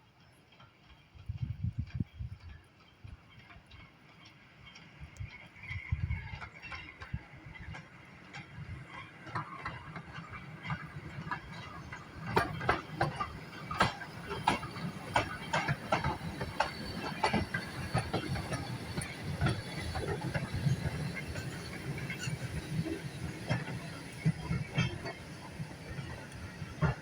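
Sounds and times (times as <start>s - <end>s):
train rumbling on rails: 0.0s - 27.0s
clanks from wheels and couplings: 0.2s - 27.0s.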